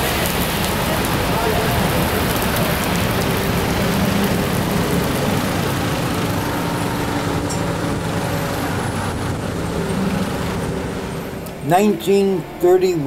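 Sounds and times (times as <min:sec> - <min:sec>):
low engine hum: 0:00.0 - 0:13.0
passing vehicles hiss: 0:00.0 - 0:13.0.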